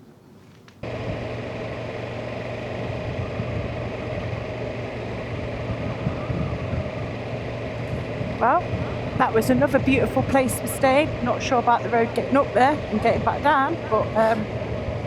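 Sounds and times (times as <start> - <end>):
road noise: 0.0 - 15.0
motorcycle engine running: 0.8 - 15.0
rush of wind: 0.8 - 15.0.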